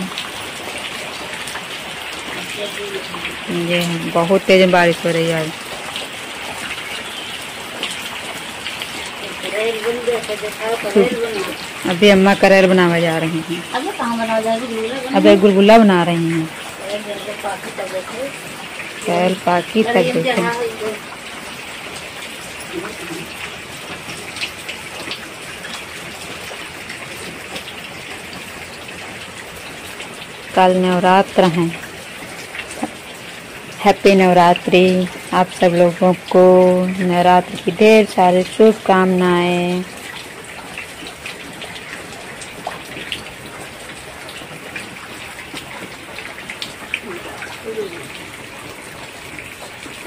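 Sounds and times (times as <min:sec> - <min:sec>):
food deep-frying in hot oil: 0:00.0 - 0:50.0
heavy rain on a tin roof: 0:00.0 - 0:50.0.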